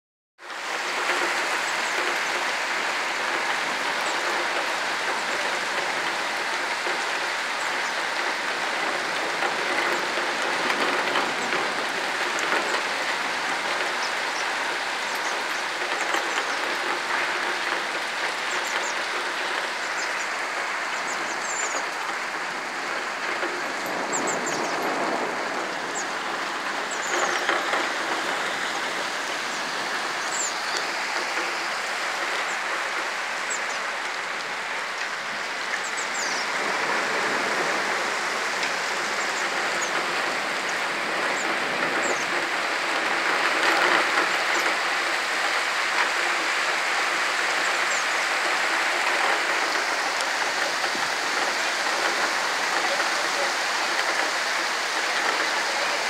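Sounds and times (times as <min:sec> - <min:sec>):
heavy rain pouring: 0:00.4 - 0:56.0.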